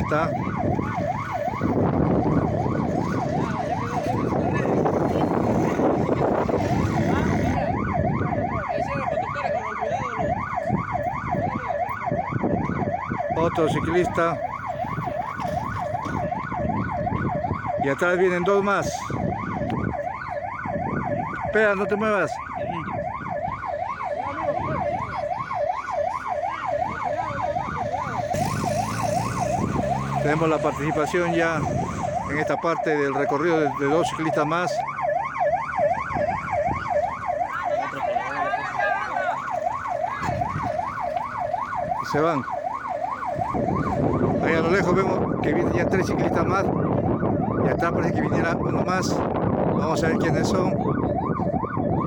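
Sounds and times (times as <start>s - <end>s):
motorcycles and vehicles approaching: 0.0s - 52.0s
road and wind rumble: 0.0s - 52.0s
siren yelping: 0.0s - 52.0s.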